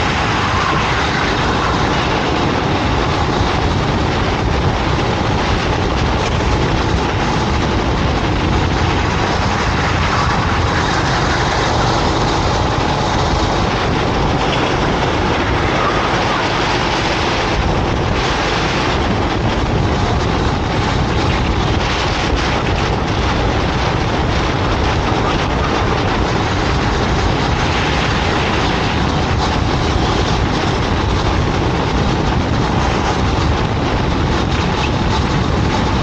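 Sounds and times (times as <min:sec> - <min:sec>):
racing kart engine: 0:00.0 - 0:36.0
wind noise on microphone: 0:00.0 - 0:36.0.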